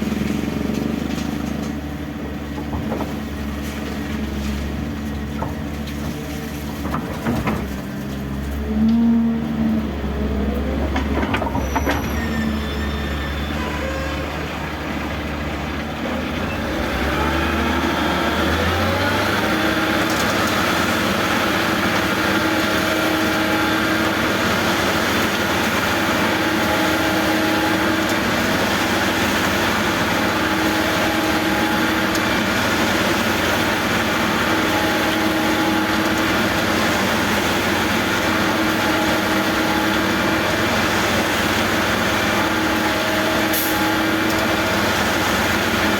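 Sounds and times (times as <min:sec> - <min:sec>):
backhoe diesel engine revving: 0:00.0 - 0:45.9.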